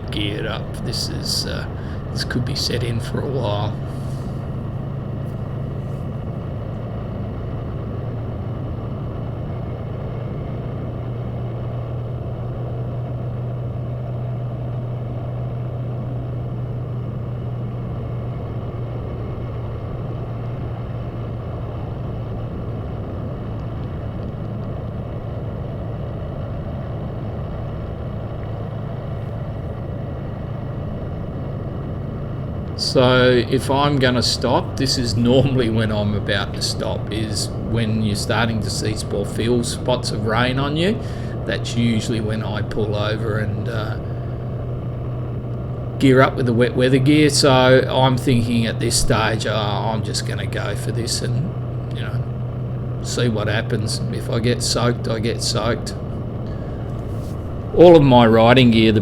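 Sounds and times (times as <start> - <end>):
motorcycle engine cruising: 0.0 - 59.0
road and wind noise: 0.0 - 59.0.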